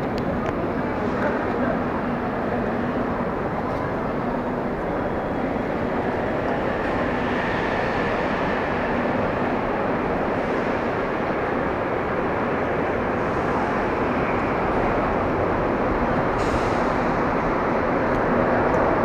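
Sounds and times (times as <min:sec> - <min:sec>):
airport terminal hall rumble: 0:00.0 - 0:19.0.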